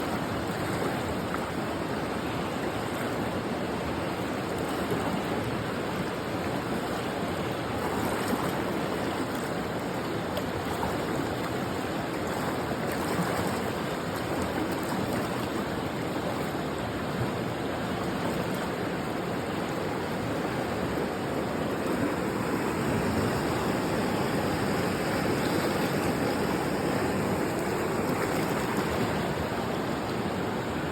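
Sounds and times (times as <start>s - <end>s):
river rushing over rocks: 0.0s - 30.9s.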